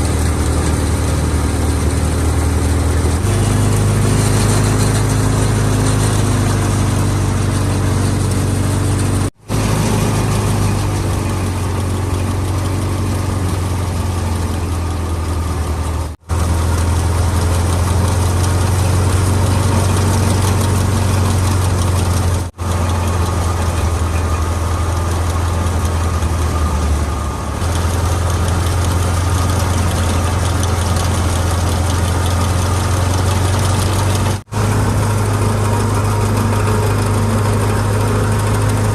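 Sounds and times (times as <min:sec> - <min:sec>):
thresher rattling: 0:00.0 - 0:38.9
tractor diesel engine drone: 0:00.0 - 0:38.9.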